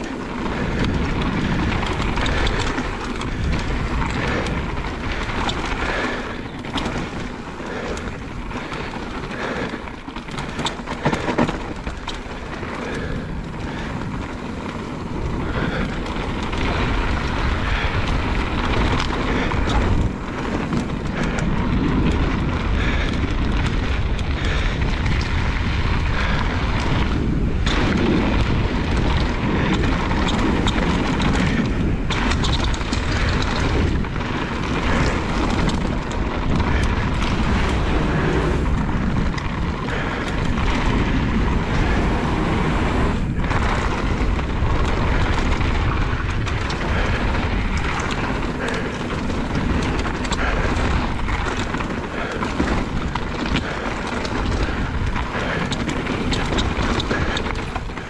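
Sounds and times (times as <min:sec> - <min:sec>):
bike tyres rumbling on rough trail: 0:00.0 - 0:58.0
wind buffeting microphone: 0:00.0 - 0:58.0.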